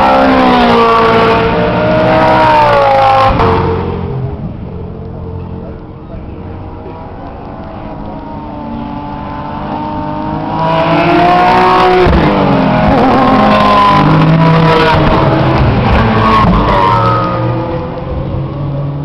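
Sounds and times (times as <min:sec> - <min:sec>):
race cars passing: 0:00.0 - 0:19.0.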